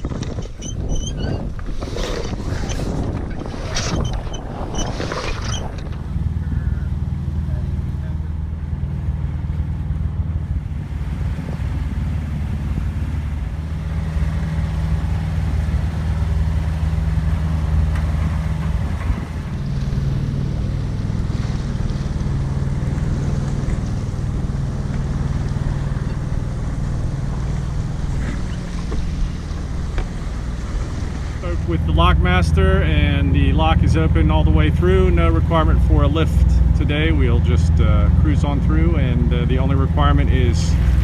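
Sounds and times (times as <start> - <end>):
boat engine running: 0.0 - 41.0
wind noise on microphone: 0.0 - 41.0.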